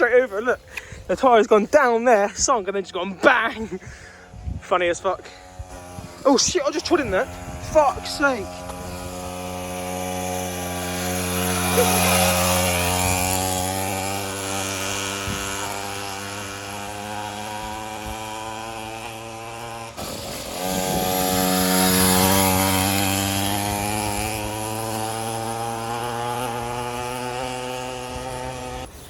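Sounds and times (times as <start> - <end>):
mini motorbike engine running: 3.2 - 29.0.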